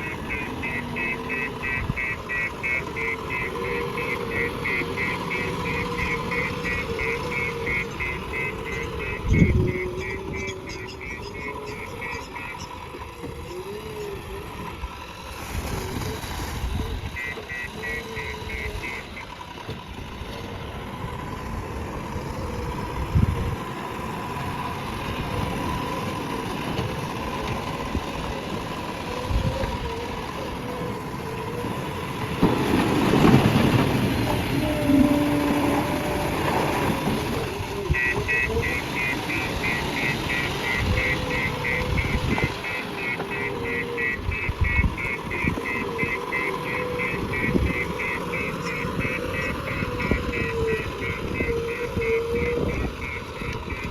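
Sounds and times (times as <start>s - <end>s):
backhoe diesel engine revving: 0.0s - 53.9s.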